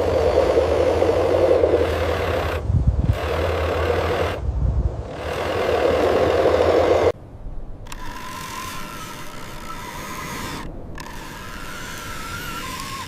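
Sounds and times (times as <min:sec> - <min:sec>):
toy truck motor and gears: 0:00.0 - 0:04.4, 0:05.0 - 0:07.2, 0:07.8 - 0:13.0.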